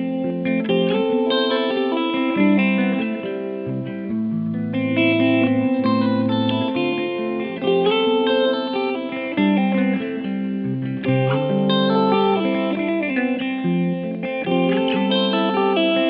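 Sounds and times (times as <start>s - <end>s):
electric guitar chords: 0.0s - 16.0s.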